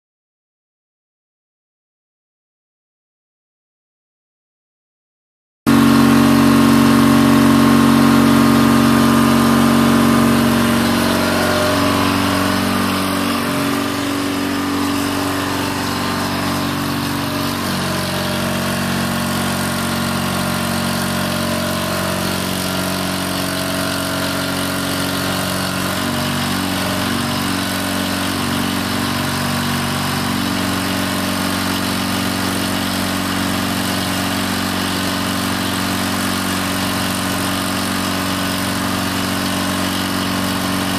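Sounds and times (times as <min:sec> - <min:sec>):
engine idling: 0:05.7 - 0:40.9.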